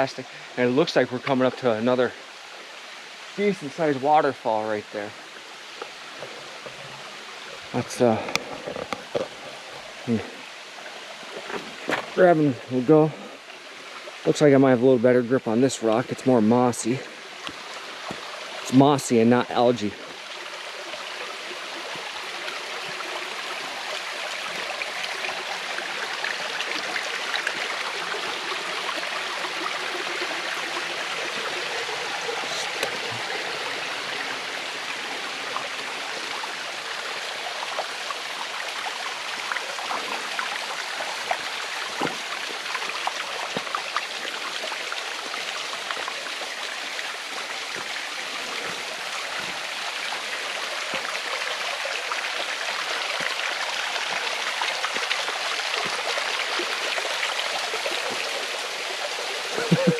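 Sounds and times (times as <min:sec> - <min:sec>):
creek water rushing over rocks: 0:00.0 - 0:59.9.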